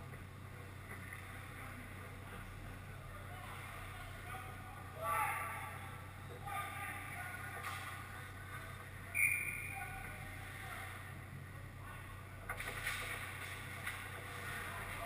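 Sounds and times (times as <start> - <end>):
distant voices: 0.0 - 15.0.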